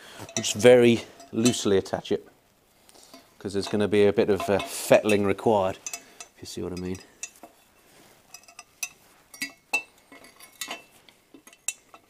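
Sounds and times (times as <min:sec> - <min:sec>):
light metallic clinks and taps: 0:00.2 - 0:01.8, 0:02.9 - 0:12.0.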